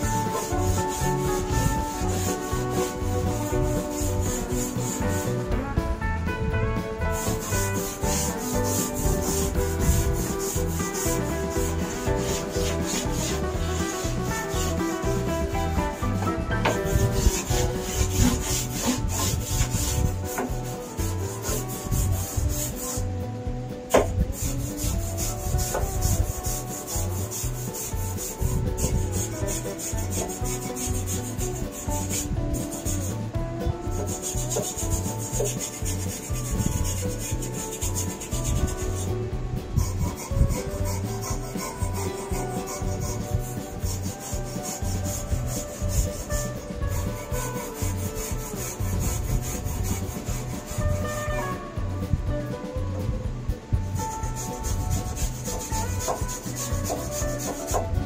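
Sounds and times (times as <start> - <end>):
brush scrubbing sheet metal: 0.0 - 52.8, 53.9 - 58.0.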